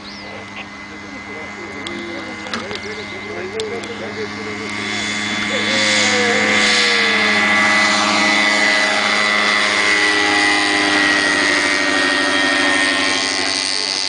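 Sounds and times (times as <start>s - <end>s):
ultralight aircraft engine drone: 0.0s - 14.0s.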